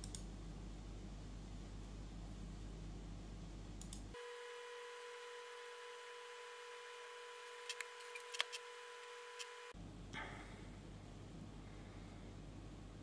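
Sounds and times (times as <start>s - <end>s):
faint electronic hum: 0.0s - 13.0s.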